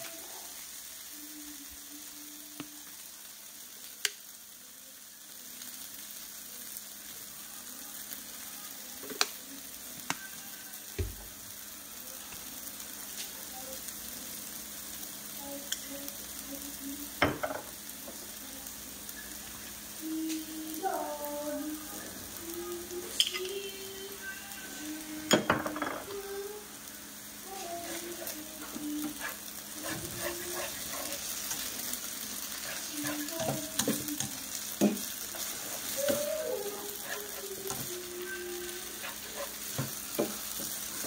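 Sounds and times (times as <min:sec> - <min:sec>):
noodles sizzling in a frying pan: 0:00.0 - 0:41.0.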